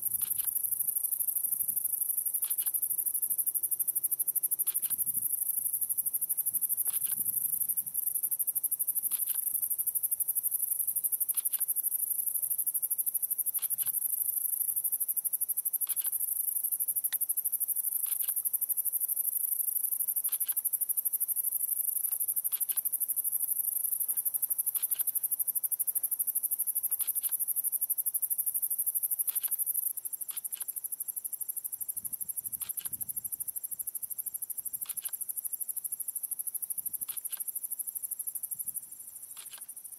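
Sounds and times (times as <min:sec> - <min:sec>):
short insect call: 0:00.0 - 0:39.9.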